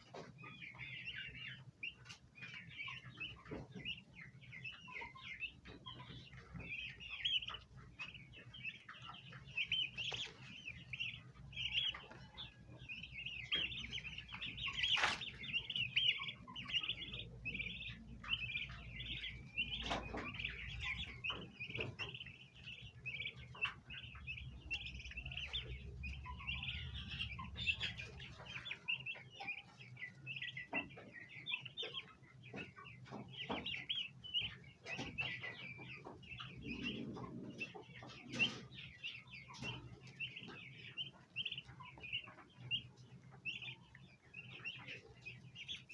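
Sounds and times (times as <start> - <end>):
turkey poults chirping: 0.0 - 45.9.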